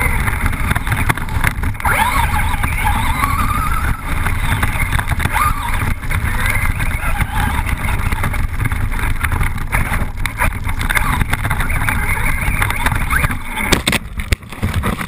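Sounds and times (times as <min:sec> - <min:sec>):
electric motor whining: 0:00.0 - 0:14.0
wind and ground rumble: 0:00.0 - 0:15.0.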